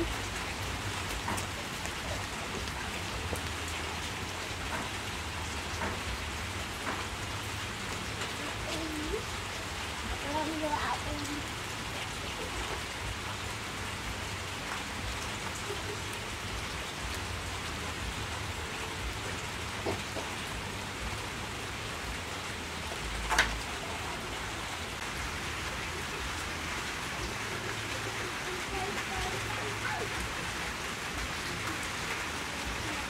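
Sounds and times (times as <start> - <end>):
rain hissing: 0.0 - 33.0.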